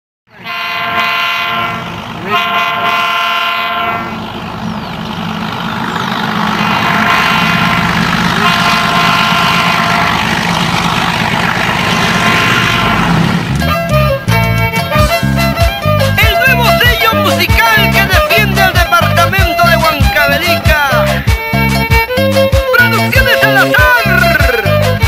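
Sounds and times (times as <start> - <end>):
locomotive horn blasts: 0.3 - 4.6, 5.3 - 21.1, 21.7 - 25.0
diesel engine rumble: 0.3 - 25.0.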